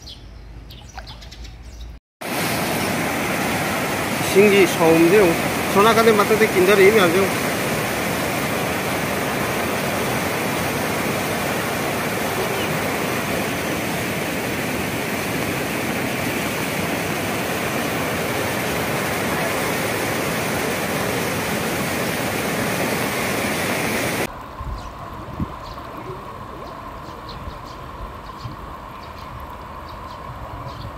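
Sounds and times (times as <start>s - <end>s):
floodwater rushing in river: 2.2s - 30.9s.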